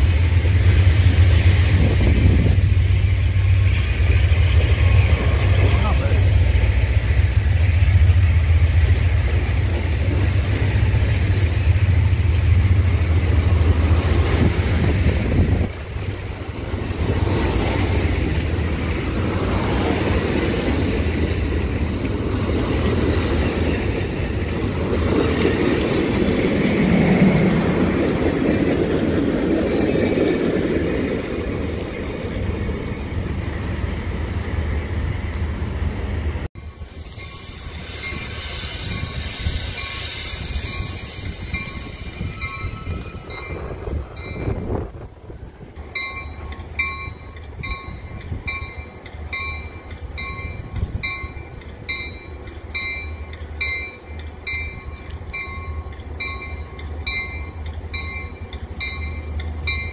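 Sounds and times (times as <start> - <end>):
train cars rumbling past: 0.0 - 59.9.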